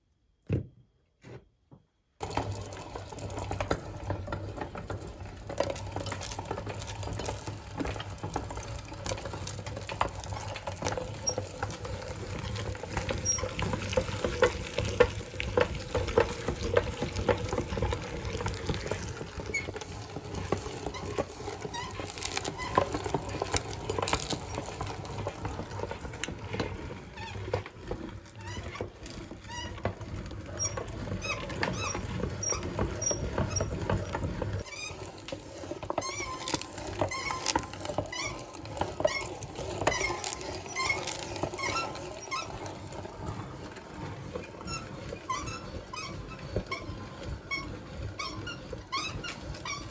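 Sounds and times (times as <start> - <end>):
crackling and clicking in grinder: 2.2 - 49.9.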